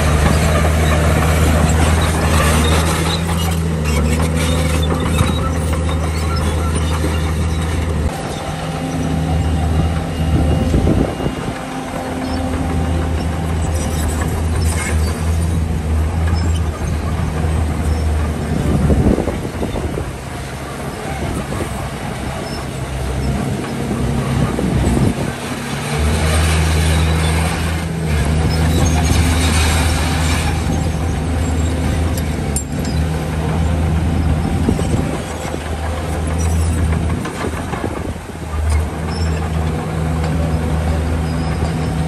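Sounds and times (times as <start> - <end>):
diesel engine drone: 0.0 - 42.0
machinery clatter: 0.0 - 42.0.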